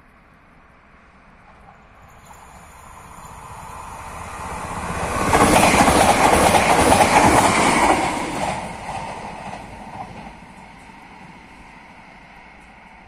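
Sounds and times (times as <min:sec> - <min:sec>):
train passing at speed: 0:00.3 - 0:13.0.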